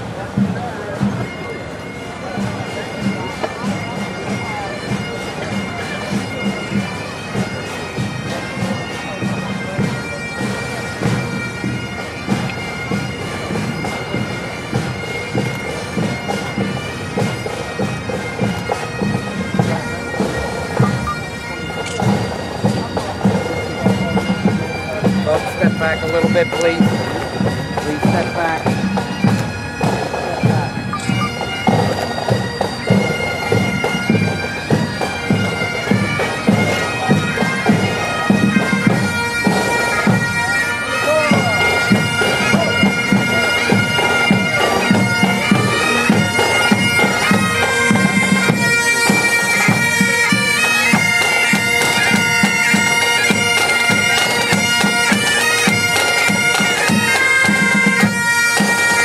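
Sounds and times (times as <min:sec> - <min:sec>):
bagpipes playing over drones: 0:00.0 - 0:59.0.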